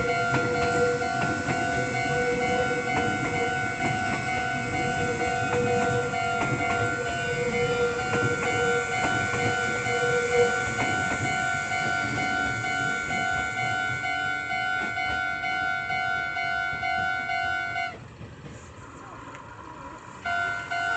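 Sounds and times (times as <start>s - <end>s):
level-crossing alarm ringing: 0.0s - 18.0s, 20.2s - 20.9s
train rumbling: 0.0s - 20.9s
train wheels clacking over rails: 0.0s - 20.9s.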